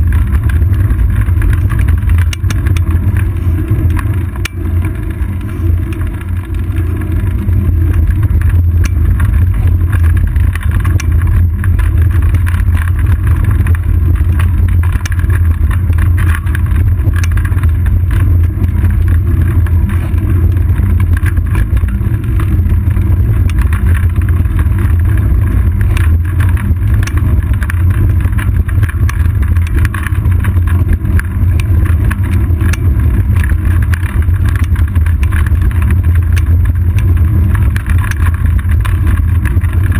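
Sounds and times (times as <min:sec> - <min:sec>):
small clicks and rattles: 0:00.0 - 0:39.9
wind and road rumble: 0:00.0 - 0:39.9.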